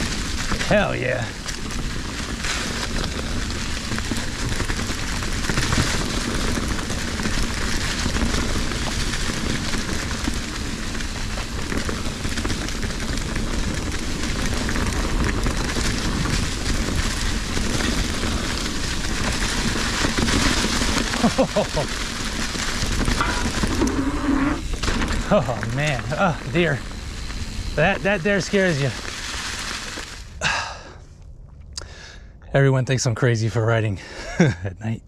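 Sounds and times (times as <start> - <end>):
bike tyres crunching dry leaves: 0.0 - 31.1.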